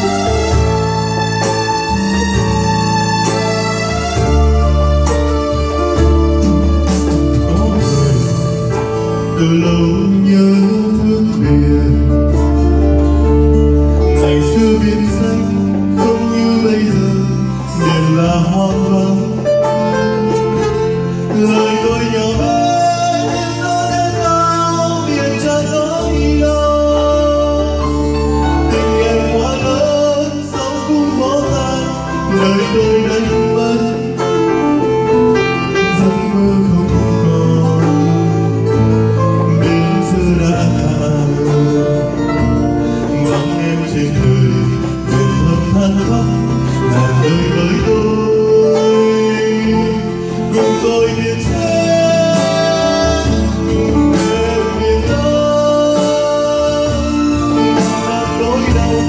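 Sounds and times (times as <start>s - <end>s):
man singing into a microphone: 0.0s - 59.0s.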